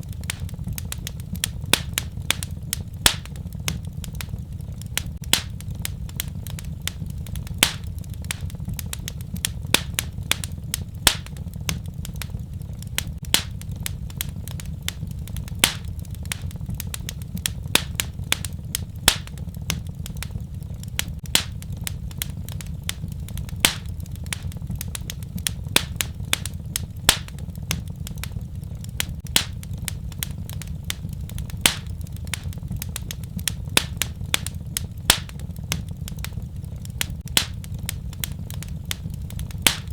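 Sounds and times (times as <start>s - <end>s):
low rumble of burning fire: 0.0s - 39.9s
wood fire crackling and popping: 0.0s - 39.9s.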